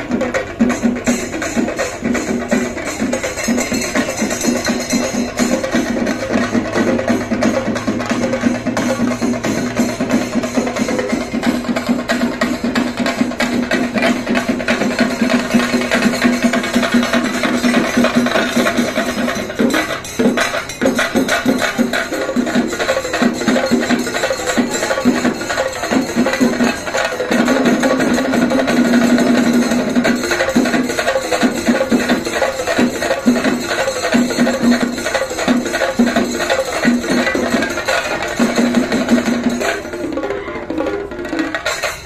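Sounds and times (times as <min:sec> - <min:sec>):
fast percussion beat: 0:00.0 - 0:42.0.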